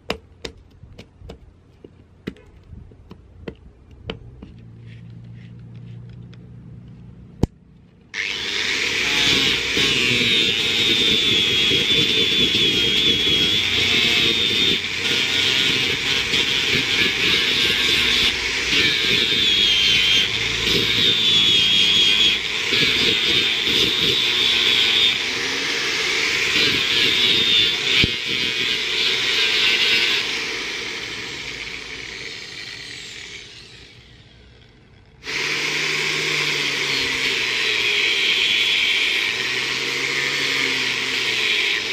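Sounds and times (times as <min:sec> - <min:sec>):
angle grinder grinding wood: 0:08.1 - 0:41.9.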